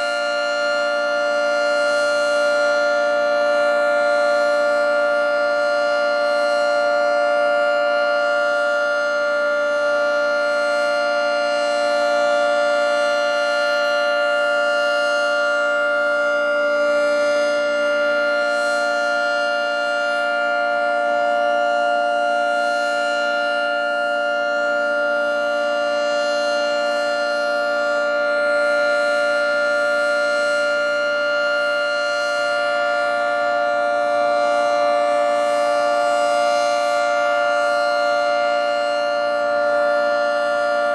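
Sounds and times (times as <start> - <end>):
outdoor warning siren: 0.0 - 40.9.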